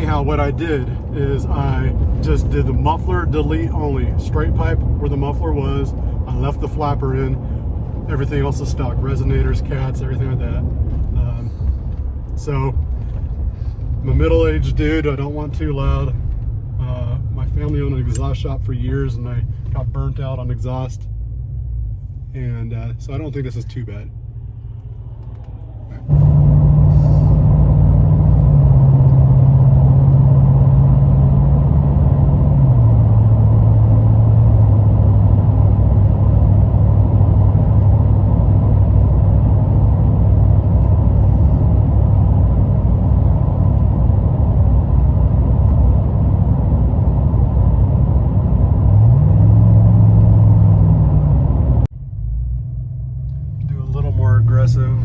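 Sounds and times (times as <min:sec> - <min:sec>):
engine exhaust low drone: 0:00.0 - 0:55.0.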